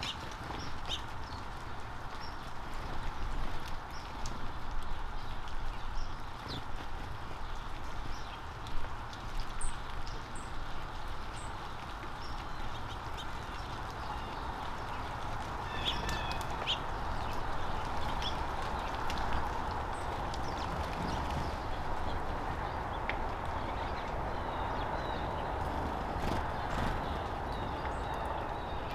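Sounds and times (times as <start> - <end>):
outdoor background hiss: 0.0 - 28.9
small birds chirping: 0.0 - 28.9.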